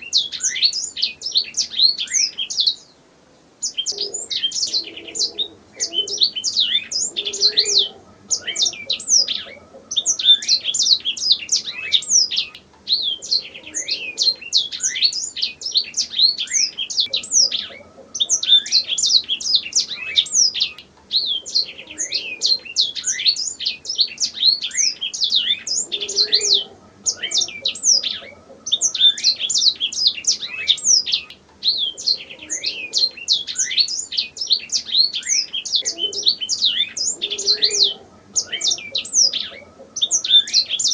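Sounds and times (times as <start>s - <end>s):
canary singing trilled song: 3.6s - 40.9s.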